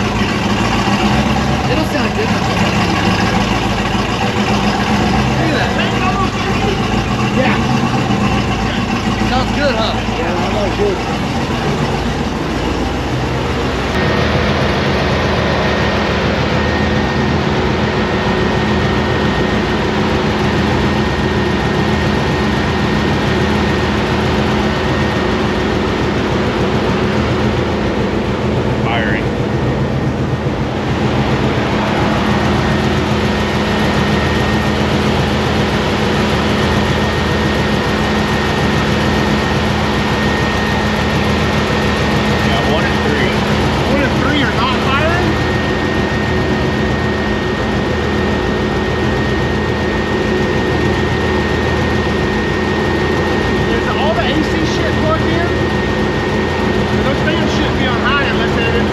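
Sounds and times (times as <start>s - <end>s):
engine idling: 0.0s - 58.9s.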